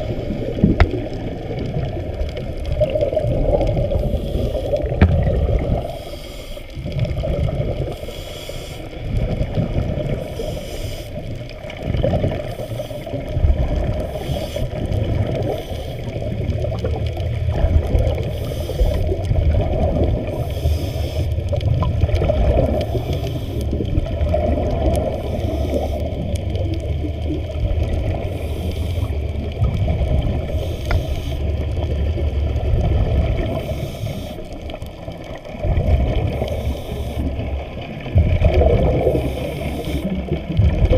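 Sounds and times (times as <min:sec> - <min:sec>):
faint water hiss: 0:00.0 - 0:40.9
muffled underwater rumble: 0:00.0 - 0:40.9.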